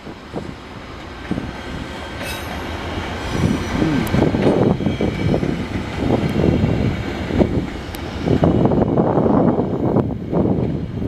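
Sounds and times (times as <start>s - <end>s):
passenger train rolling past: 0.0s - 11.0s.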